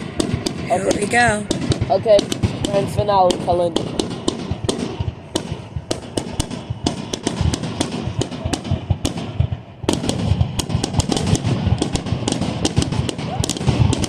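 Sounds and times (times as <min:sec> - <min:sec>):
fireworks bangs and crackles: 0:00.0 - 0:14.0
low rumble: 0:00.0 - 0:14.0.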